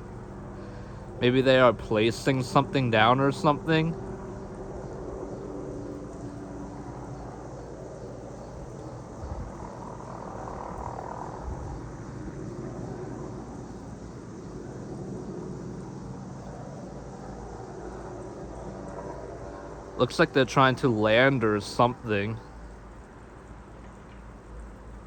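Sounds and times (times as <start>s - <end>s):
distant helicopter drone: 0.0s - 25.0s.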